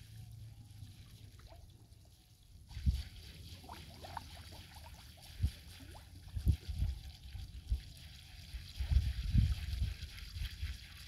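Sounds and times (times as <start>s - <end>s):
floodwater sloshing and trickling: 0.0s - 11.0s.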